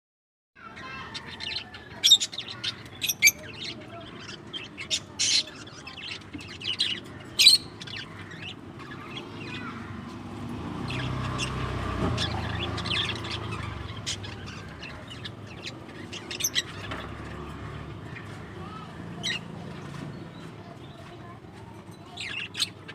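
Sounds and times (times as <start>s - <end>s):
parrots chirping and squawking: 0.6s - 20.5s, 21.8s - 22.9s.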